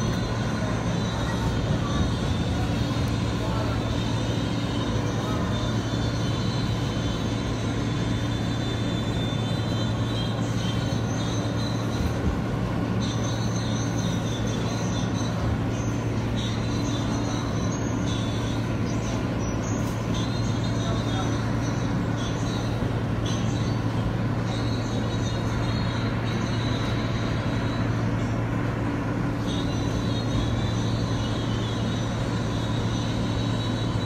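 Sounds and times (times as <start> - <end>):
subway train rumble: 0.0 - 34.0
thin high whine: 0.0 - 34.0.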